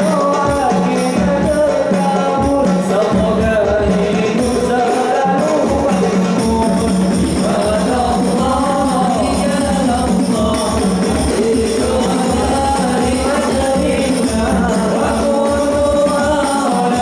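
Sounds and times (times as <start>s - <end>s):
hand drum beat: 0.0s - 17.0s
men singing through microphones: 0.0s - 17.0s.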